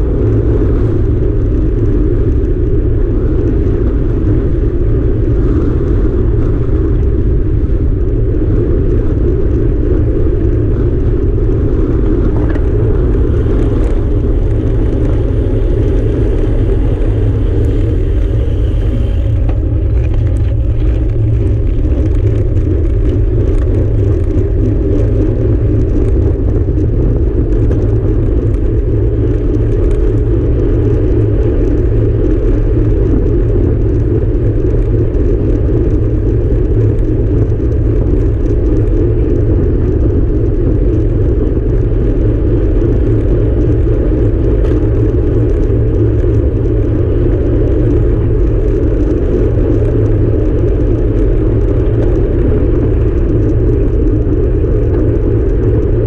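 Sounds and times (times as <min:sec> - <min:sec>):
tyres rumbling on asphalt: 0:00.0 - 0:56.0
wind noise on microphone: 0:00.0 - 0:56.0.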